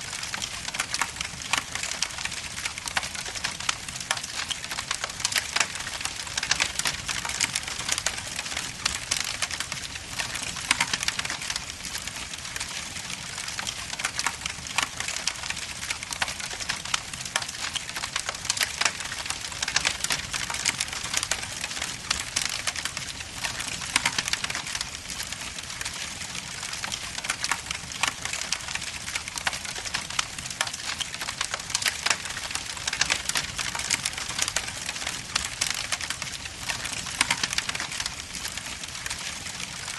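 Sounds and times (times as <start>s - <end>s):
fire crackles and pops: 0.0s - 39.9s.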